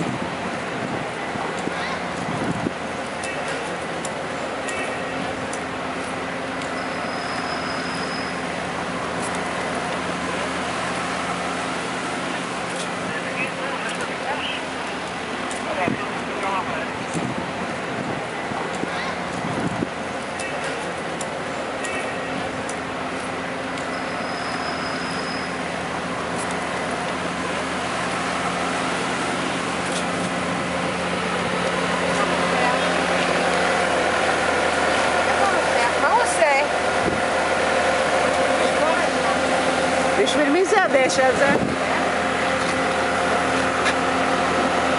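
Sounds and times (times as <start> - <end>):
diesel engine running steadily: 0.0 - 44.9
street traffic: 0.0 - 44.9.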